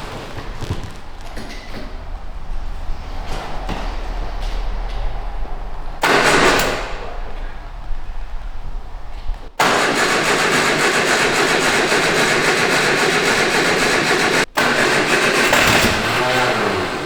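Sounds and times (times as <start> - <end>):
car engine cranking on starter: 0.0 - 17.0.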